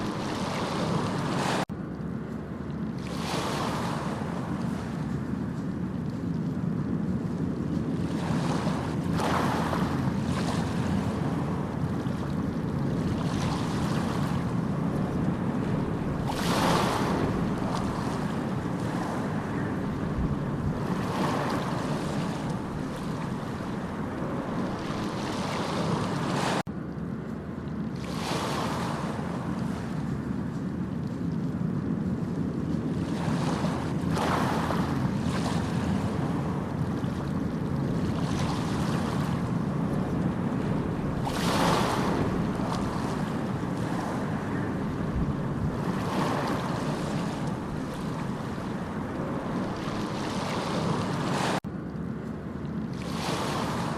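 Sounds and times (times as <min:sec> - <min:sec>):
sea surf rumbling: 0:00.0 - 0:01.7, 0:03.0 - 0:26.7, 0:28.0 - 0:30.9, 0:31.5 - 0:51.7, 0:52.9 - 0:53.9
waves breaking: 0:00.0 - 0:01.8, 0:02.6 - 0:26.7, 0:27.7 - 0:51.7, 0:52.6 - 0:53.9.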